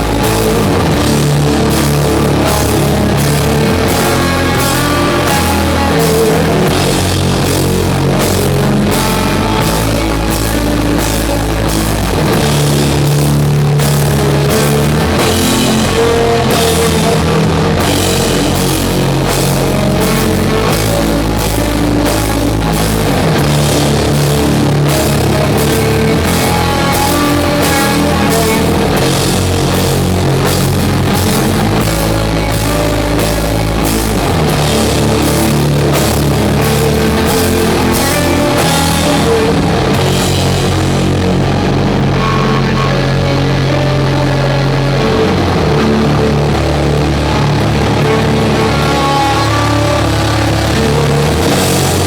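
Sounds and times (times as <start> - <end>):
drum kit and cymbal hits: 0.0 - 52.0
heavy metal band playing live: 0.0 - 52.0.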